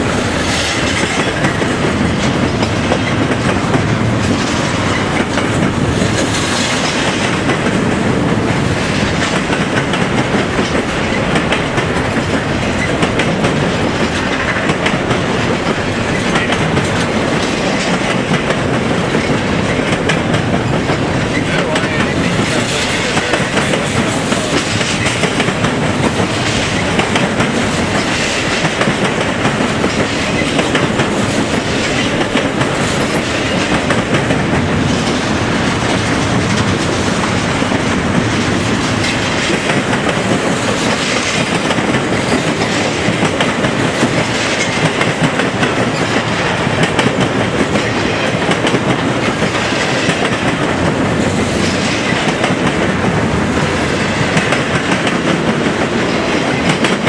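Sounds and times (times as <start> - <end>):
freight train cars rolling: 0.0 - 57.0
wheels clacking over rail joints: 0.0 - 57.0.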